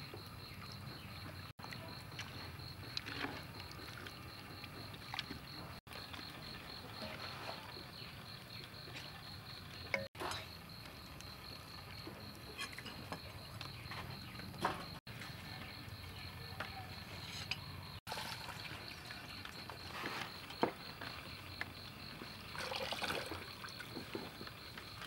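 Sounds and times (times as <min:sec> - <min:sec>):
high insect chirp: 0:00.0 - 0:25.0.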